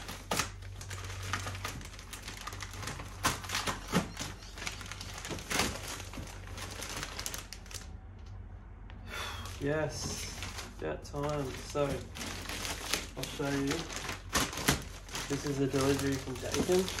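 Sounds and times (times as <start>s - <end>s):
plastic rustling and crinkling: 0.0s - 8.0s, 9.5s - 17.0s.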